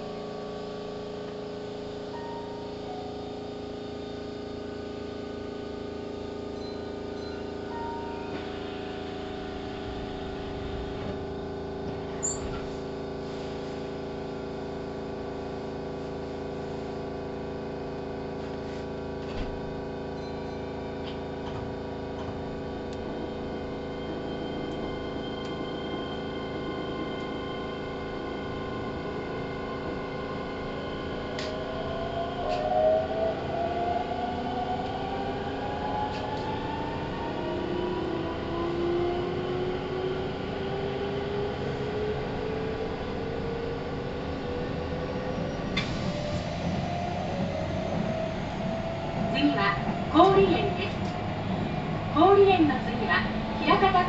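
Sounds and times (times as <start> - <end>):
train electrical hum: 0.0 - 54.0
traction inverter whine rising: 1.6 - 13.2, 14.0 - 54.0.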